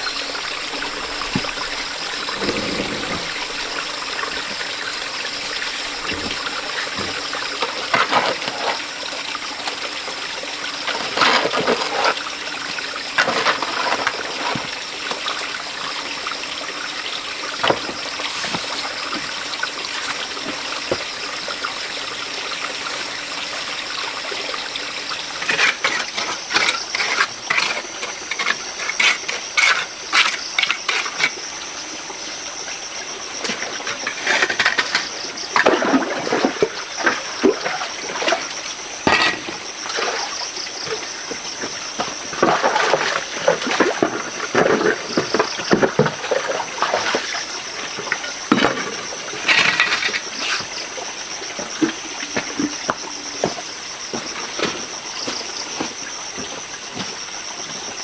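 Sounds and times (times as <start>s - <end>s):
splashing and scraping clatter: 0.0s - 31.6s, 33.3s - 56.0s
flowing water: 0.0s - 58.0s.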